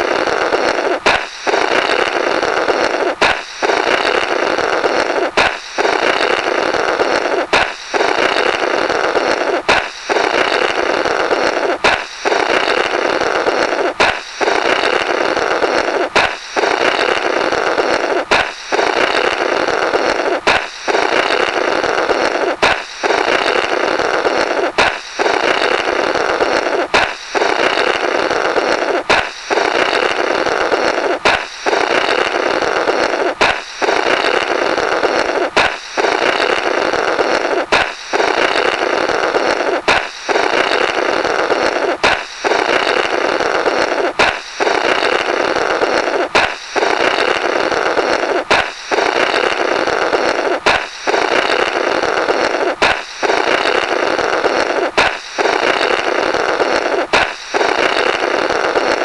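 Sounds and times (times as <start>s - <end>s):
balloon pop: 0.0s - 59.0s
buzzy flapping raspberry: 0.0s - 59.0s.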